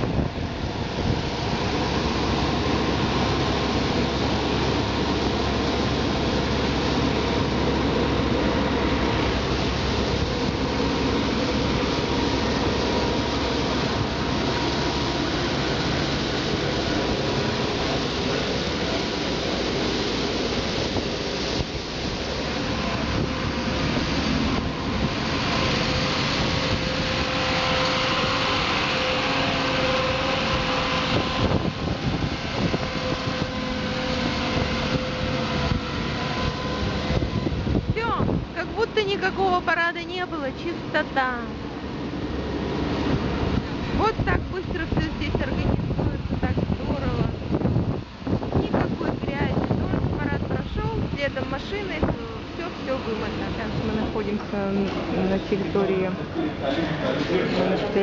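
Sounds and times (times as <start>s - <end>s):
street sweeper brushes and fan: 0.0s - 58.0s.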